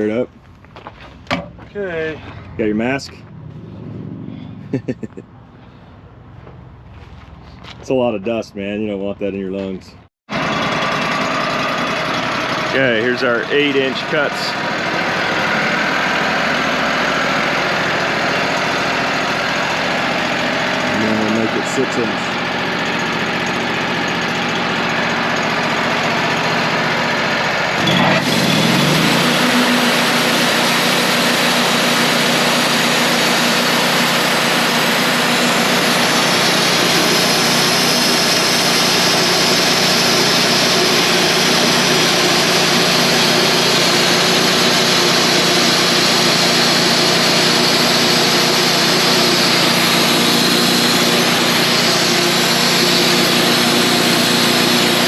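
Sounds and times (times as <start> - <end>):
sawmill engine revving: 2.4 - 5.0, 10.3 - 55.0
band saw blade cutting log: 10.3 - 55.0.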